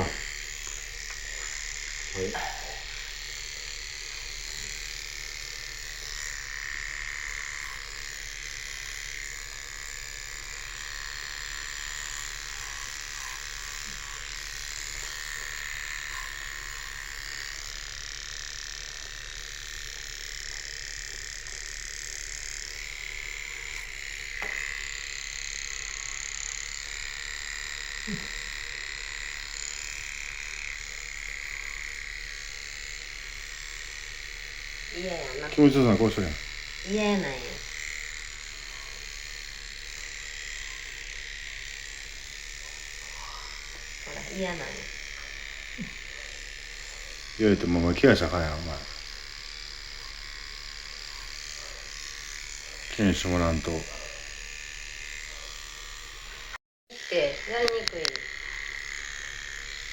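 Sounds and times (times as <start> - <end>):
electric grooming tool buzzing: 0.0 - 59.9.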